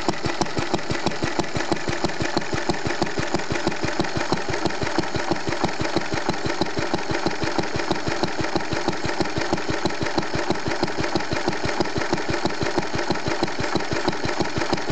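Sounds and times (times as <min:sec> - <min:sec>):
stationary engine chuffing: 0:00.0 - 0:14.9.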